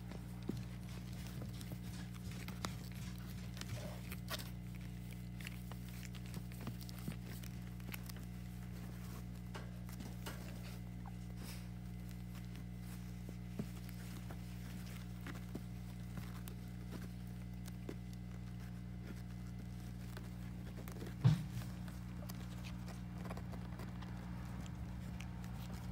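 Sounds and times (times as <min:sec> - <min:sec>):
puppies crawling and scratching: 0:00.0 - 0:25.9
steady low hum: 0:00.0 - 0:25.9.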